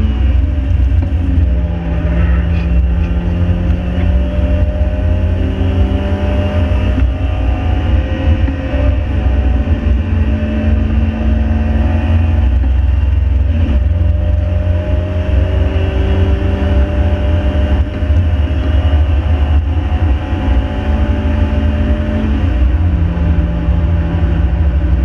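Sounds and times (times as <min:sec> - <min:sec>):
car engine running: 0:00.0 - 0:25.0
heavy steady rumble: 0:00.0 - 0:25.0.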